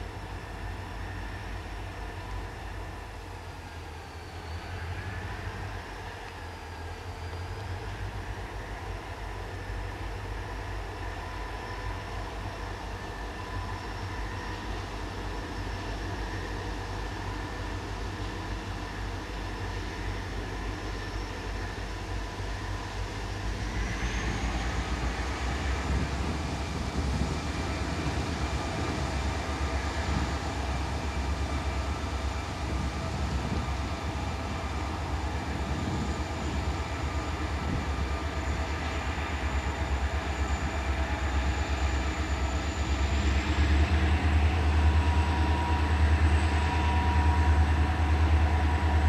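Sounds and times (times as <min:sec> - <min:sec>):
diesel locomotive engine rumble: 0:00.0 - 0:49.0.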